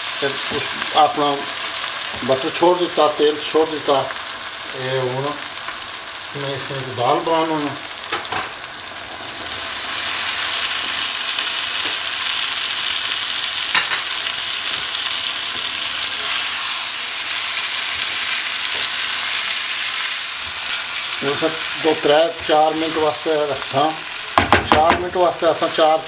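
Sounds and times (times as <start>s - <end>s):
beans sizzling in hot oil: 0.0s - 26.0s.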